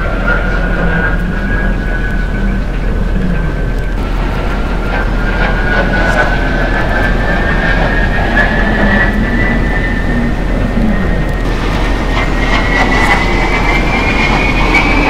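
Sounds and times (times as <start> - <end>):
airplane engine rush: 0.0 - 15.0
thin rising whine: 0.0 - 15.0.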